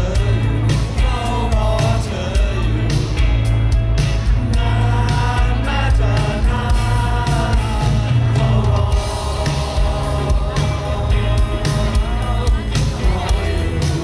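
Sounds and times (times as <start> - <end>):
man singing into microphone: 0.0 - 3.4, 4.4 - 14.0
electric guitar: 0.0 - 14.0
live rock band playing: 0.0 - 14.0.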